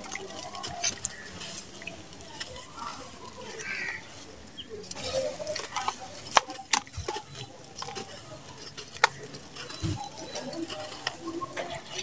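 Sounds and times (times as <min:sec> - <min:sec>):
damp sand crunching: 0:00.0 - 0:12.0.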